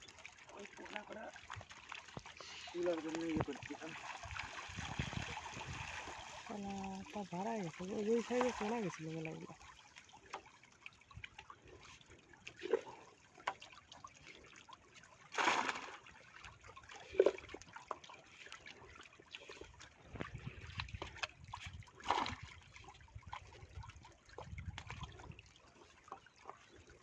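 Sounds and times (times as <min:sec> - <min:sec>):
water splashes and knocks: 0:00.0 - 0:27.0
water trickling: 0:00.0 - 0:27.0.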